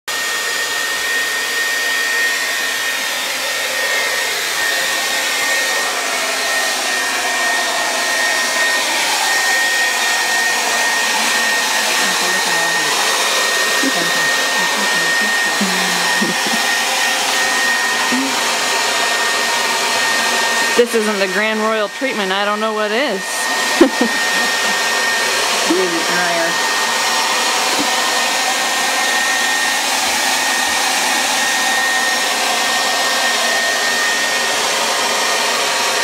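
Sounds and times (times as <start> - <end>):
hair dryer running: 0.1 - 36.0.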